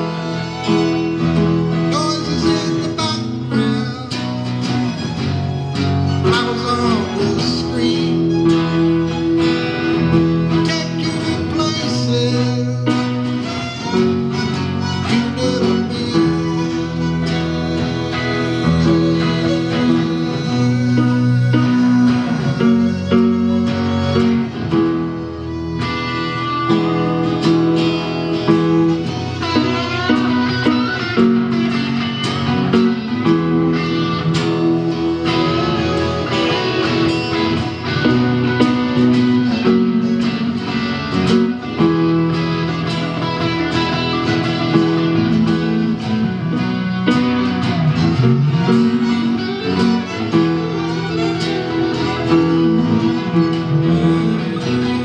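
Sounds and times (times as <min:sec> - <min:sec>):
live band playing: 0:00.0 - 0:55.0
plucked guitar: 0:00.0 - 0:55.0.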